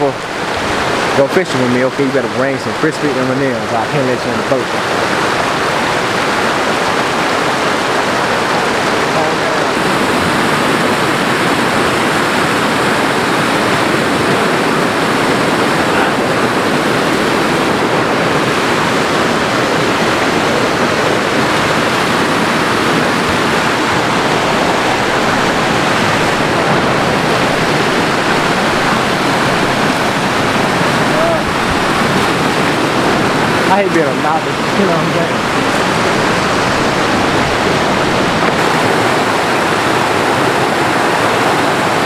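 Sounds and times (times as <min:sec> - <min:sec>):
stream rushing over cascade: 0:00.0 - 0:42.0.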